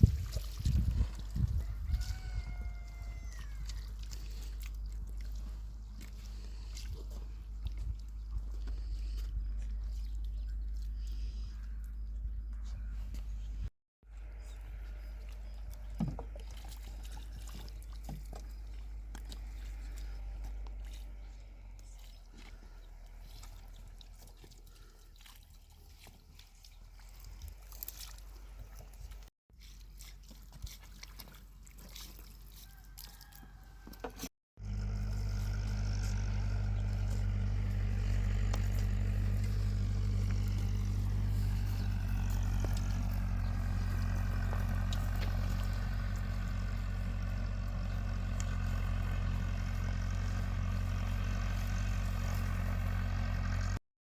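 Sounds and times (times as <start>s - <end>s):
engine running with deep hum: 0.0s - 53.8s.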